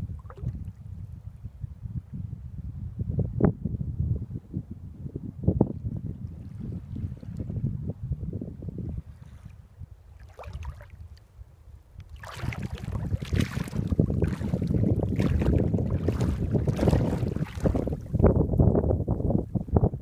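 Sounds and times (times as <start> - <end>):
wind buffeting microphone: 0.0 - 11.2, 12.0 - 20.0.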